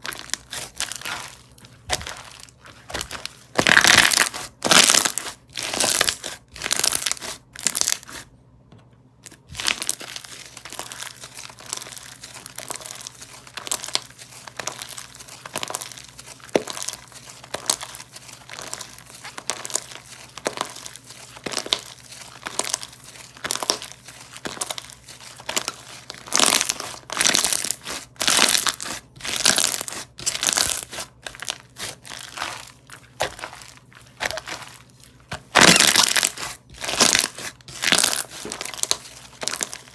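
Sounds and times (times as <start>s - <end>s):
slime squeezed by hand crackling: 0.0s - 8.2s, 9.2s - 39.9s.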